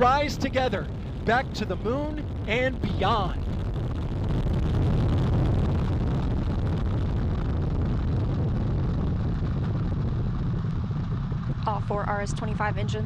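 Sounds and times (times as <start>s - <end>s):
rocket engines roaring: 0.0s - 13.0s.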